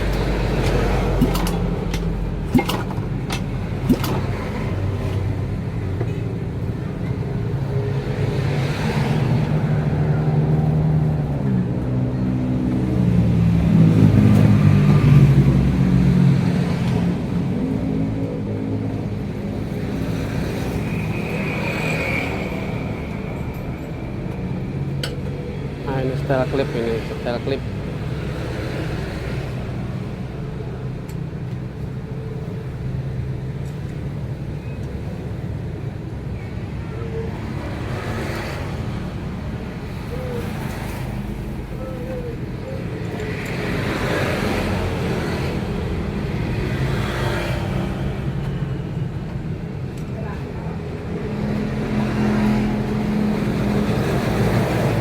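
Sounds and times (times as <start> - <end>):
motor vehicle engines running: 0.0 - 55.0.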